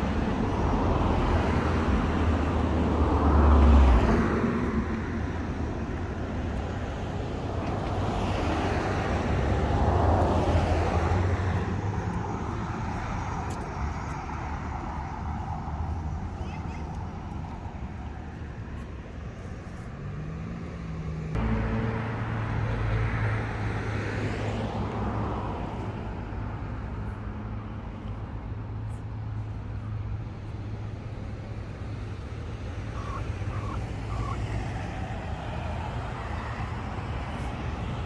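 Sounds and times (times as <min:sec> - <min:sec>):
vehicle hum and road noise: 0:00.0 - 0:38.0.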